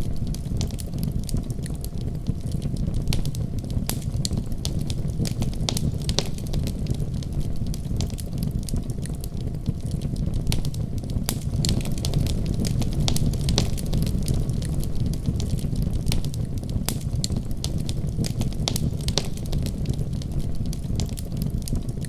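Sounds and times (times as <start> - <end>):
burning wood popping and snapping: 0.0 - 22.0
low rumble of flames: 0.0 - 22.0.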